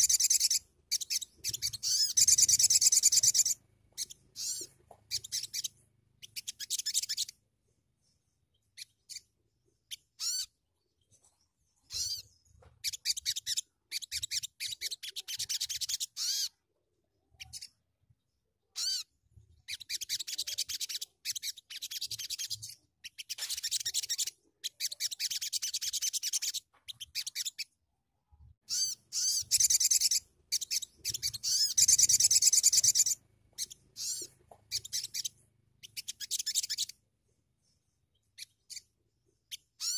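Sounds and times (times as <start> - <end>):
bird twittering song: 0.0 - 27.8, 28.6 - 39.9.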